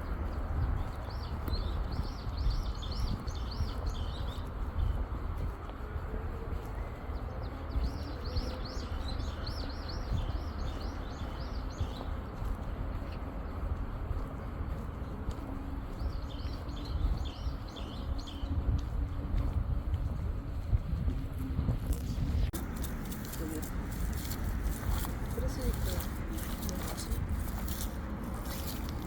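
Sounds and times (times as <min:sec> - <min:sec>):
small songbirds chirping: 0:00.0 - 0:19.2, 0:22.0 - 0:29.0
steady low rumble: 0:00.0 - 0:29.0.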